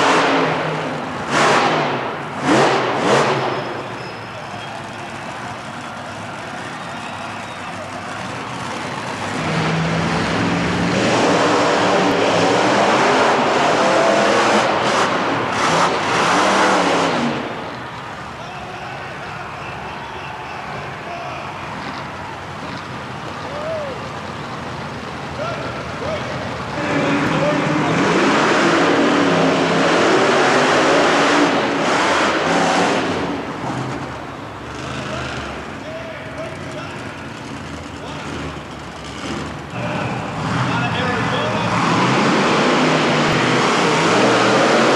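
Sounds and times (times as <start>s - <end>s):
truck engine revving hard: 0.0s - 18.2s, 21.6s - 44.9s.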